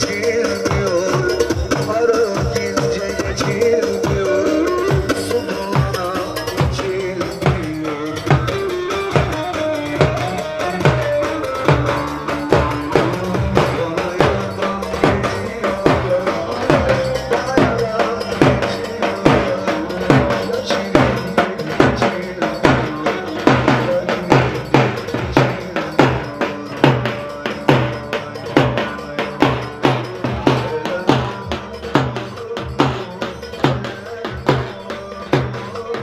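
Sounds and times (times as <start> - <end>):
driving drum beat: 0.0 - 36.0
instrumental melody line: 0.0 - 36.0.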